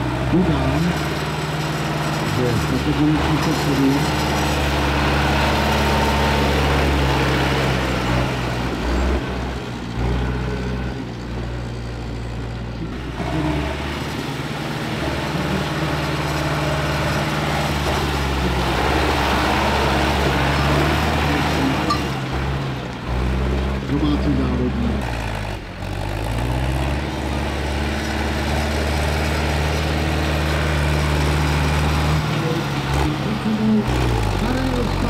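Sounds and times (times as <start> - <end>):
tractor engine under load: 0.0 - 35.0.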